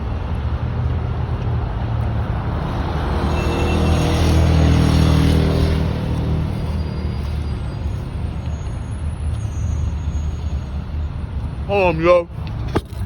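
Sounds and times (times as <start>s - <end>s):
heavy vehicle passing: 0.0s - 11.6s
road traffic rumble: 0.0s - 13.0s.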